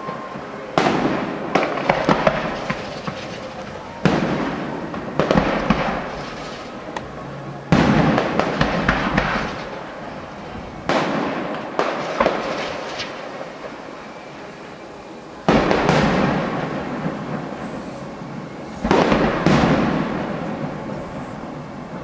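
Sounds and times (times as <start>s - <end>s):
firework shells bursting: 0.0s - 10.0s, 10.8s - 13.8s, 15.4s - 22.0s
firework crackles and pops: 0.0s - 22.0s.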